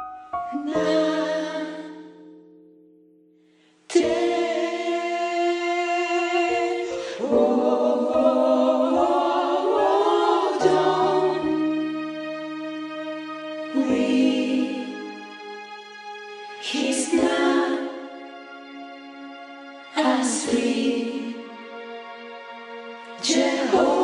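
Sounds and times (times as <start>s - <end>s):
women's choir singing chords: 0.5s - 2.4s, 3.9s - 24.0s.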